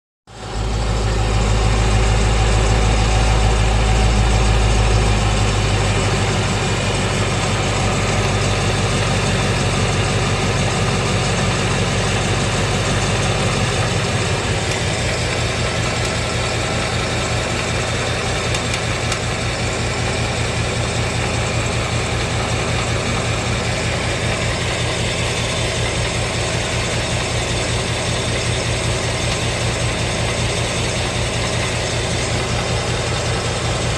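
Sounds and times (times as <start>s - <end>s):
car engine idling: 0.3s - 33.9s
fast even engine ticking: 0.3s - 33.9s.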